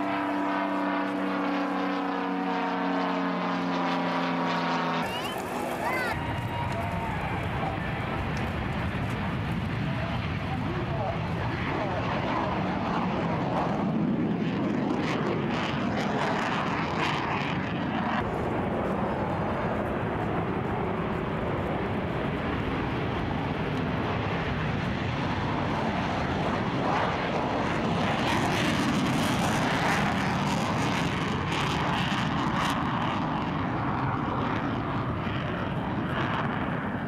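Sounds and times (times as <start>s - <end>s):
fighter jets flying past: 0.0s - 37.0s.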